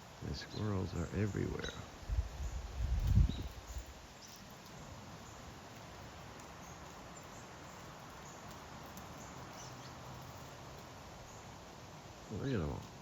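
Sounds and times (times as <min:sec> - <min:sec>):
outdoor wind: 0:00.0 - 0:13.0.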